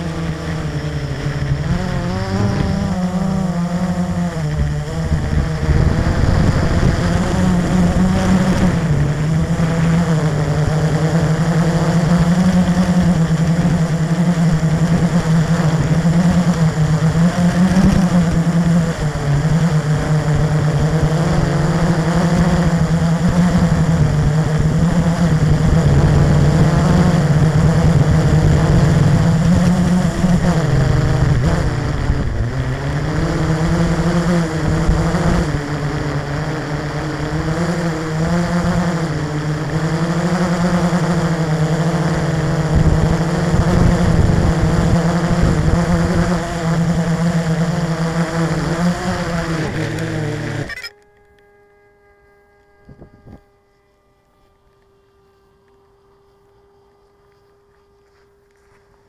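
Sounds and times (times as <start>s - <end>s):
quadcopter motors droning: 0.0s - 59.0s.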